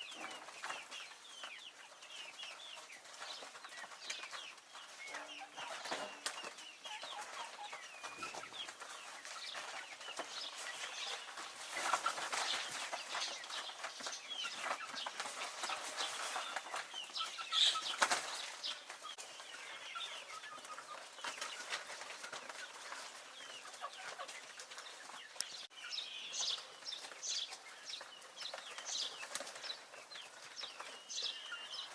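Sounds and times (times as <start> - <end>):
young chickens peeping and clucking: 0.0 - 31.9.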